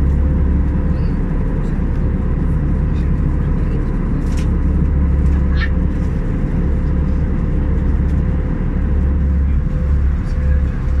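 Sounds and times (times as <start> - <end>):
aircraft cabin engine rumble: 0.0 - 11.0
steady cabin hum: 0.0 - 11.0.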